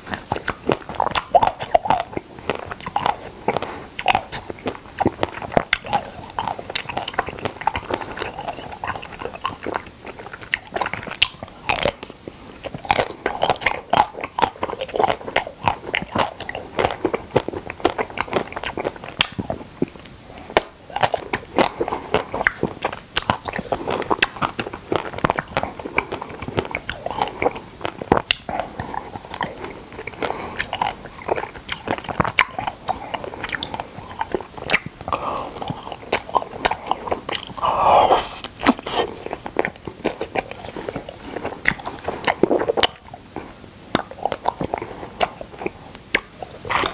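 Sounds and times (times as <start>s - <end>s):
crunchy biting and chewing: 0.0s - 46.9s.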